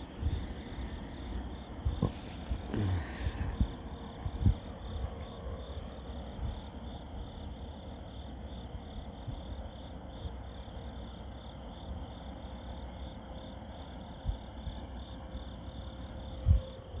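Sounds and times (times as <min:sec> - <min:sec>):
crickets chirping: 0:00.0 - 0:17.0
low rumble: 0:00.0 - 0:17.0.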